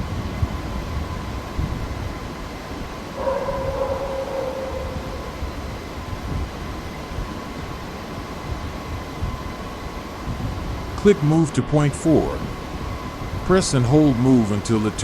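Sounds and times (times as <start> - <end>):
steady low rumble: 0.0 - 9.1, 10.1 - 15.0.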